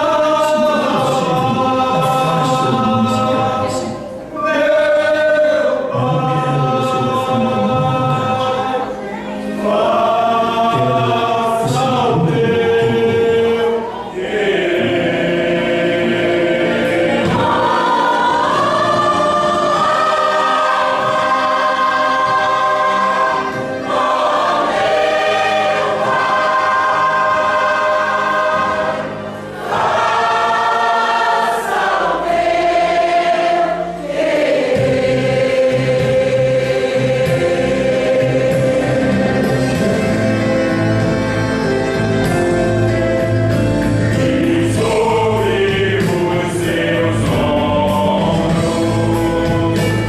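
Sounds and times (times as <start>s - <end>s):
church choir singing: 0.0s - 50.0s.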